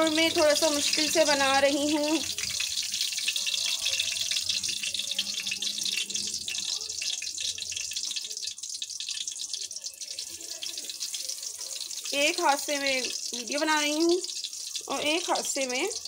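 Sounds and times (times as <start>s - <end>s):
seeds sizzling in hot oil: 0.0s - 16.0s.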